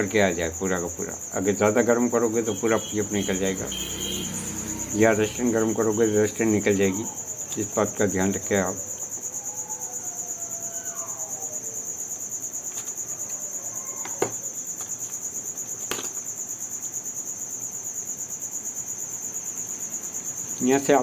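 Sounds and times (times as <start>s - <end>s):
cricket chirping trill: 0.0s - 21.0s.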